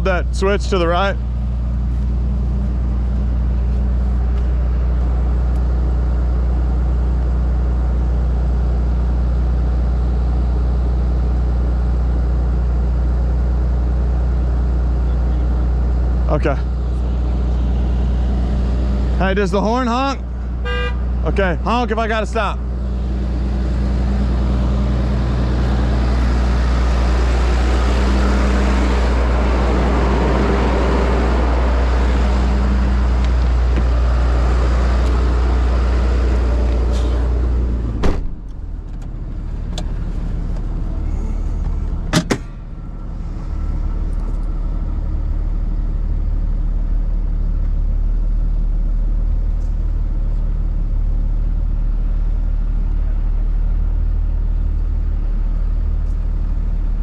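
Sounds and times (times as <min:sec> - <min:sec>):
truck engine running under load: 0:00.0 - 0:57.0.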